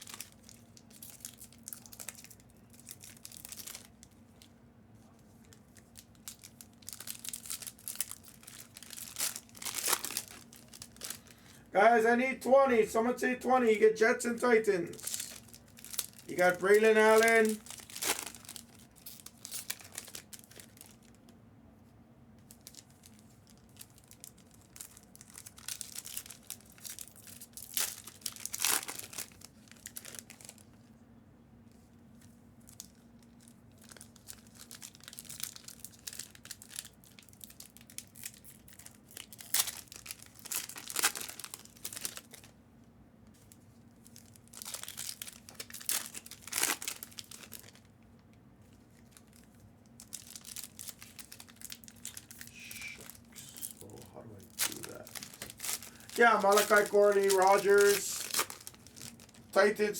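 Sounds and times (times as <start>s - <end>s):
plastic wrapping crackling: 0.0s - 4.5s, 5.3s - 11.6s, 14.4s - 21.4s, 22.4s - 30.9s, 32.2s - 42.6s, 43.2s - 59.9s
faint steady hum: 0.0s - 59.9s.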